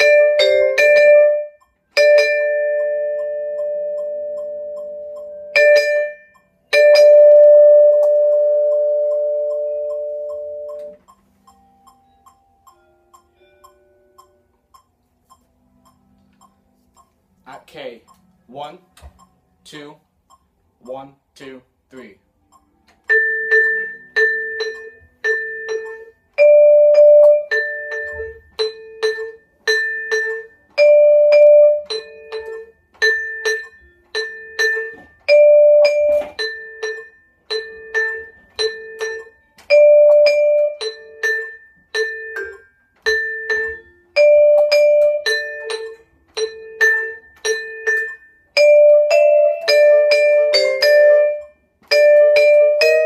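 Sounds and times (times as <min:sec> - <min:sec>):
vibraphone notes: 0:00.0 - 0:14.5, 0:23.0 - 0:53.0.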